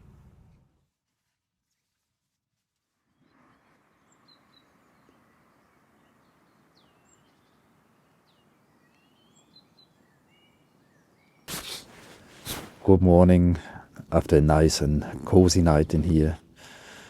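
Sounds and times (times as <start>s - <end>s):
quiet hiss: 0.0s - 17.0s
faint songbirds chirping: 2.8s - 17.0s.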